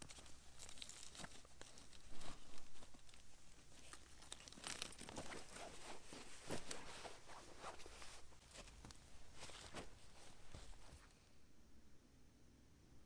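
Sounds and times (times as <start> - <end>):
rustling and crinkling: 0.0 - 11.3.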